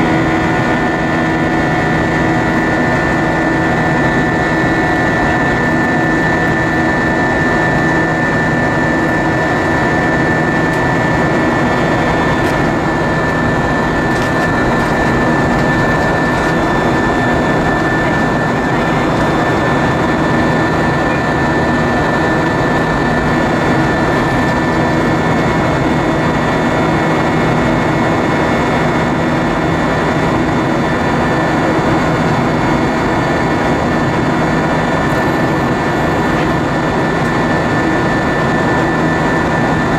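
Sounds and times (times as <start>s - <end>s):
airplane cabin engine noise: 0.0s - 39.9s.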